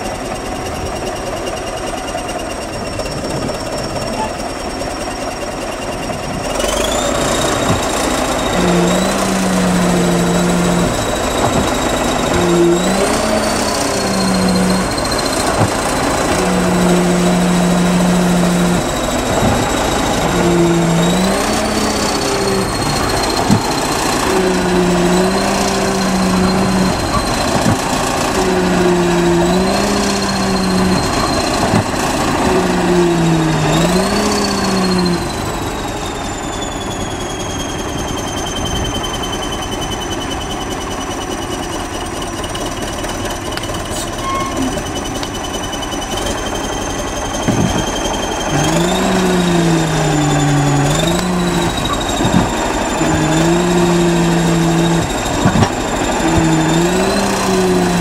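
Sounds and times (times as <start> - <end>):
high whine: 0.0 - 41.3, 42.4 - 58.0
bulldozer diesel engine under load: 0.0 - 58.0.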